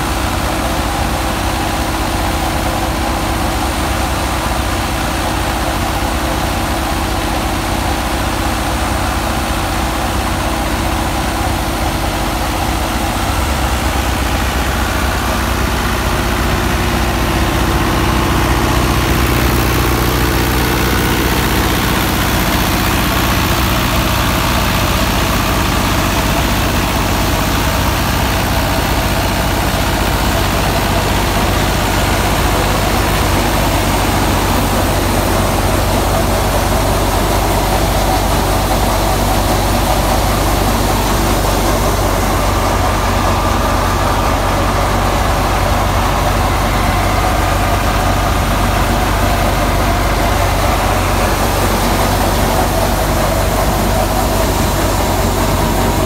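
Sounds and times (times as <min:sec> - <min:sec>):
thresher drum whirring: 0:00.0 - 0:56.0
tractor diesel engine running: 0:00.0 - 0:56.0.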